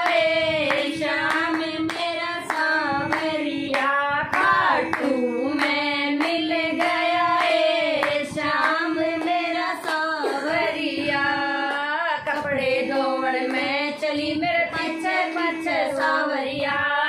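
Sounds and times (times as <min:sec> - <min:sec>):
hands clapping to a beat: 0:00.0 - 0:16.7
women singing devotional song: 0:00.0 - 0:17.0.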